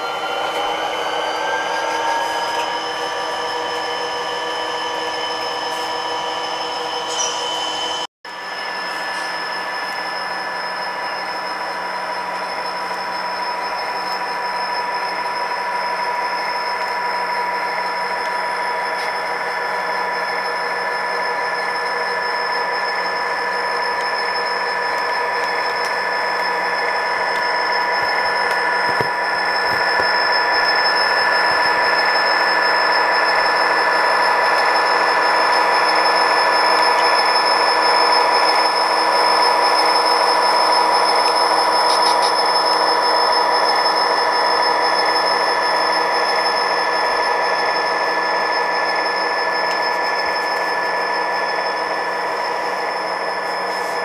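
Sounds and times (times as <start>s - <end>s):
model train motor whine: 0.0s - 54.0s.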